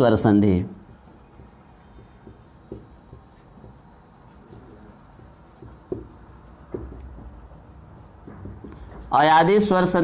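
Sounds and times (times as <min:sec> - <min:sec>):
cricket chirping: 0:00.0 - 0:10.0
marker squeaking on whiteboard: 0:00.6 - 0:10.0.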